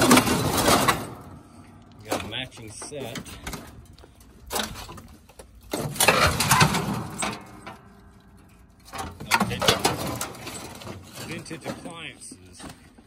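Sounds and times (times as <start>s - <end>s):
sheet metal scraping and clattering: 0.0s - 12.9s.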